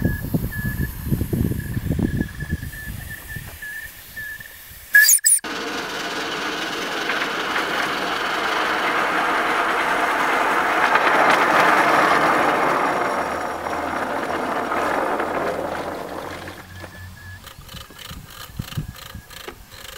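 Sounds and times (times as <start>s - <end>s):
miniature steam locomotive running: 0.0s - 19.9s
wheels rolling on rails: 0.0s - 19.9s.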